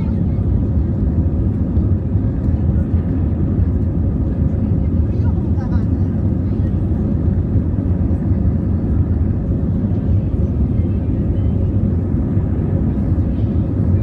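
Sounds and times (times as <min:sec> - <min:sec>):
jet airliner rumbling on runway: 0:00.0 - 0:14.0.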